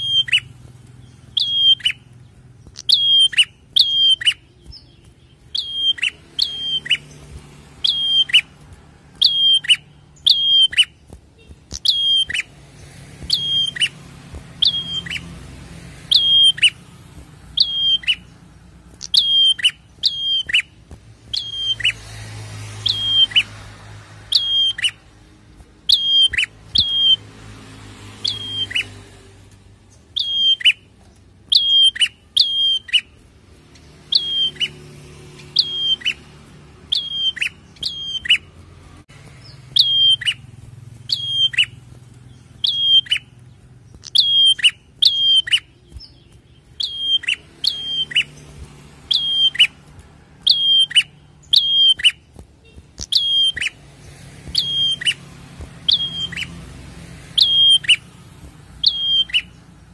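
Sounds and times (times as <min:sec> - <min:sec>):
caged bird calling: 0:00.0 - 0:59.9.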